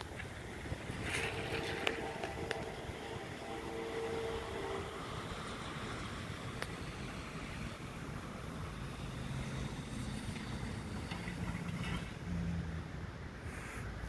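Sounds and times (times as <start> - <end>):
outdoor background hiss: 0.0 - 14.0
truck engine rumble: 0.0 - 14.0.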